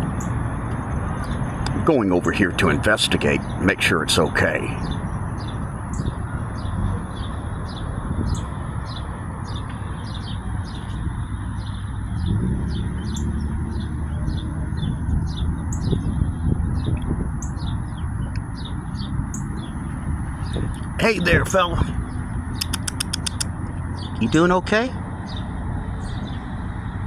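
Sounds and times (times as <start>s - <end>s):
small birds chirping: 0.0s - 26.7s.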